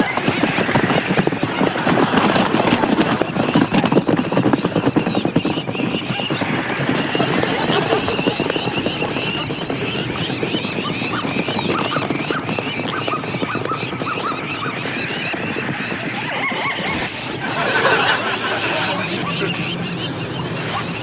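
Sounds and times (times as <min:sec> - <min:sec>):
horses galloping hoofbeats: 0:00.0 - 0:21.0.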